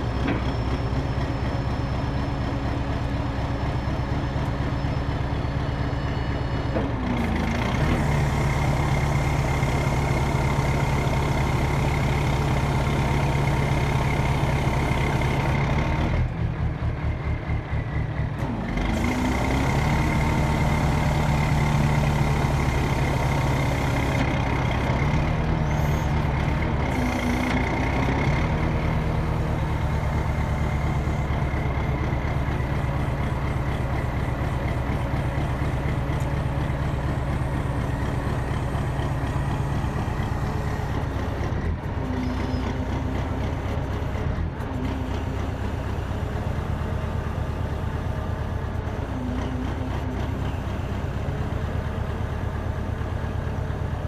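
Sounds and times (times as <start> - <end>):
diesel engine running at raised revs: 0.0 - 54.0.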